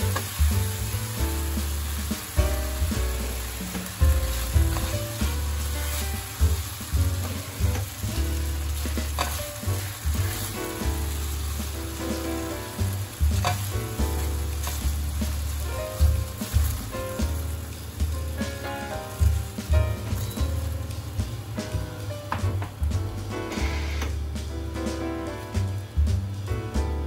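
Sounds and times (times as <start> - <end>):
spatula stirring pan: 0.0 - 21.7
background music with bass: 0.0 - 27.0
vegetables sizzling in frying pan: 0.0 - 27.0.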